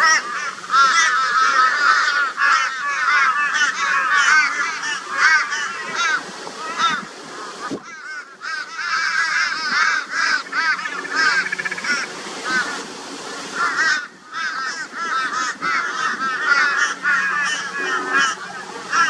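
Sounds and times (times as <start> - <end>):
crows cawing: 0.0 - 7.1, 7.8 - 12.8, 13.6 - 19.0.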